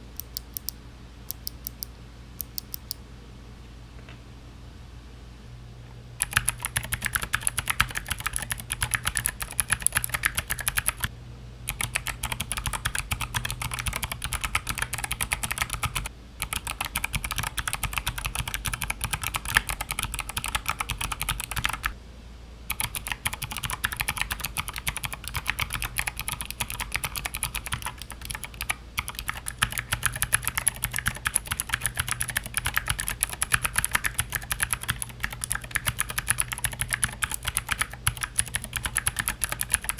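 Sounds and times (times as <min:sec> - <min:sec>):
clicky mechanical keyboard typing: 0:00.2 - 0:03.0, 0:06.2 - 0:11.1, 0:11.7 - 0:21.9, 0:22.7 - 0:39.9.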